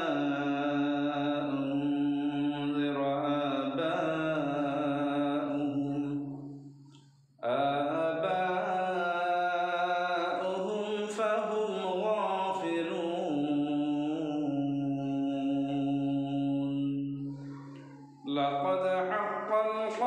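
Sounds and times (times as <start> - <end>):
man chanting a recitation: 0.0 - 6.5, 7.4 - 20.0.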